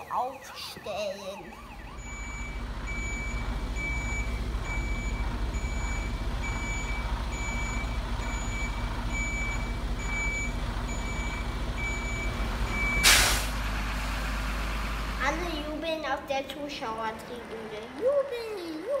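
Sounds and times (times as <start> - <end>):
truck reversing alarm beeping: 0.0 - 15.6
truck engine humming: 0.0 - 19.0.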